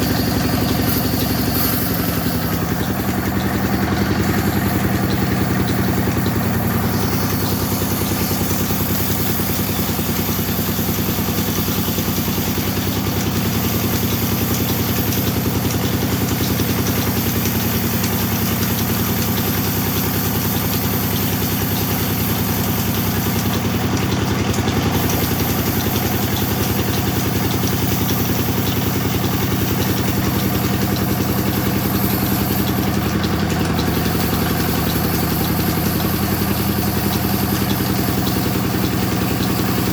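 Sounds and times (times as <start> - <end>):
sawmill motor hum: 0.0 - 39.9.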